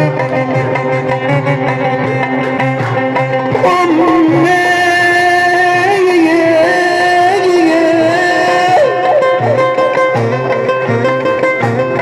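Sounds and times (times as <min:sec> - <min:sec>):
drumming: 0:00.0 - 0:12.0.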